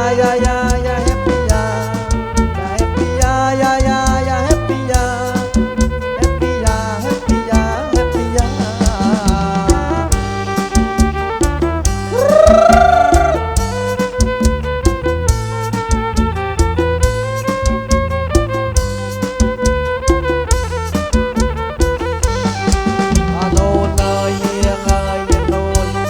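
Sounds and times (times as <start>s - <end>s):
bass: 0.0s - 26.0s
steady drum beat: 0.0s - 26.0s.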